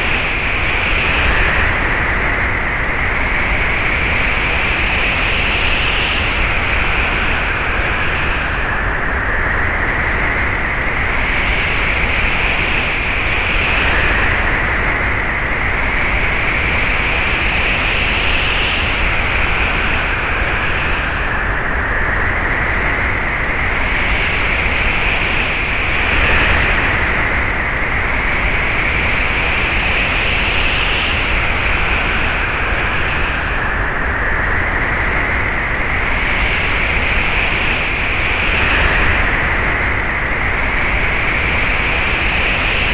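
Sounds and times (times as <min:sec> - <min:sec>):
gusting wind: 0:00.0 - 0:42.9.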